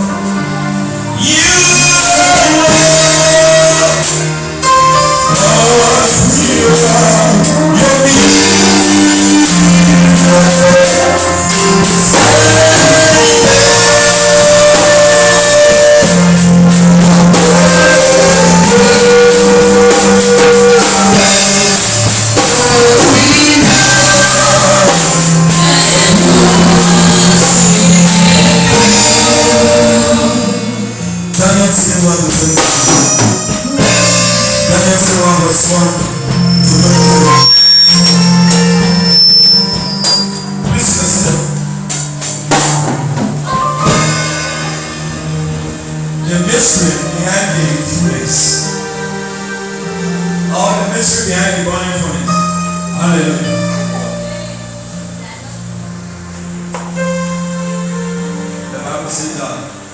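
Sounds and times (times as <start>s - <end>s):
drums: 0.0s - 48.4s
gospel singing: 0.0s - 59.9s.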